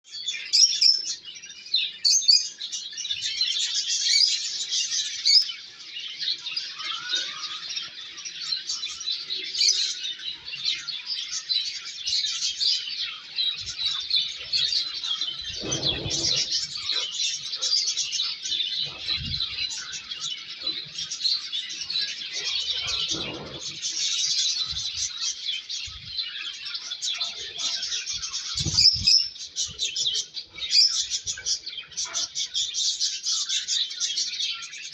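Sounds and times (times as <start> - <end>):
lovebirds chirping: 0.0 - 34.9.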